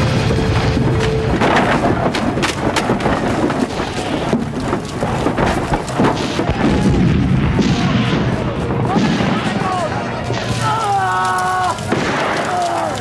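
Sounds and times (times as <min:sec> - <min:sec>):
rumble of explosions: 0:00.0 - 0:13.0
cannon and rifle fire: 0:01.4 - 0:10.6, 0:11.7 - 0:13.0.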